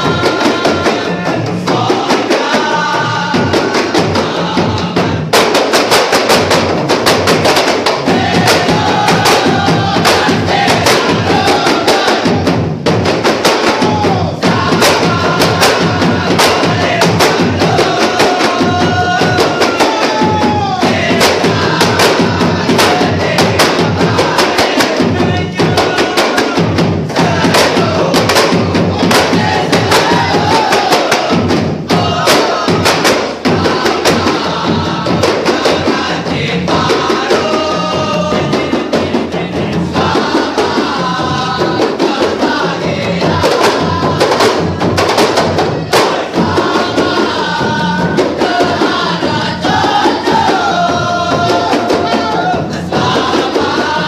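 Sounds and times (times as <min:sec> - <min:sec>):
drummers singing together: 0:00.0 - 0:54.0
frame drums in fast rhythm: 0:00.0 - 0:54.0
large barrel drum: 0:00.0 - 0:54.0.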